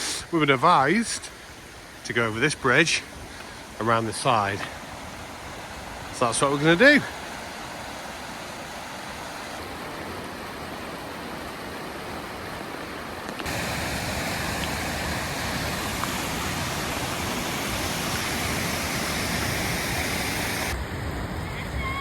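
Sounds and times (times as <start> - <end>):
waterfall rushing: 0.0 - 20.8.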